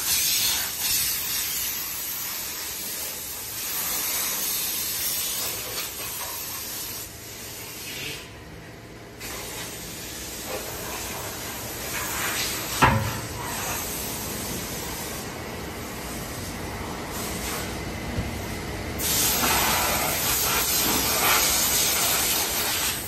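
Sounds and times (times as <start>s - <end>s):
compressed air hissing from hose: 0.0s - 8.4s, 9.2s - 17.8s, 19.0s - 23.0s.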